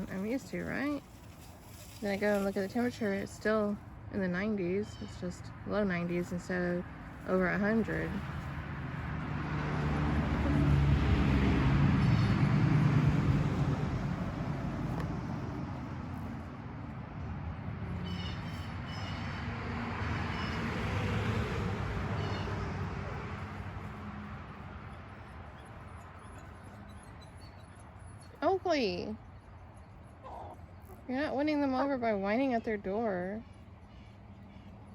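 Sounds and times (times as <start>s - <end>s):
vehicle passing: 0.0s - 34.9s.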